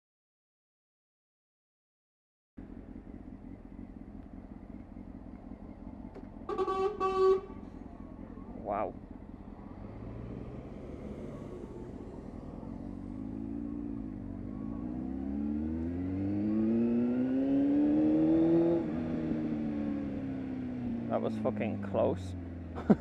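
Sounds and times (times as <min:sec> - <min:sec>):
motorcycle engine accelerating: 0:02.6 - 0:23.0.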